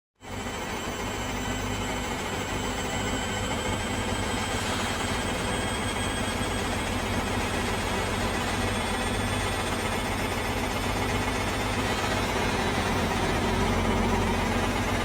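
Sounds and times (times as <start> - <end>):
washing machine spinning: 0.3 - 15.0.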